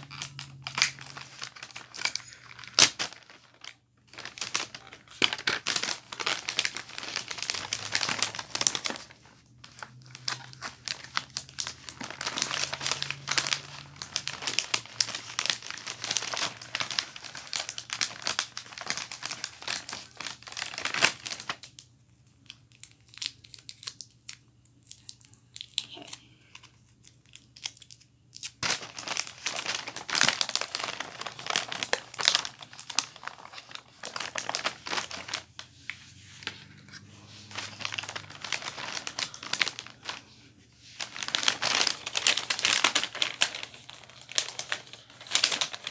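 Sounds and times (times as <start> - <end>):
wrapping paper crinkling: 0.0 - 45.9.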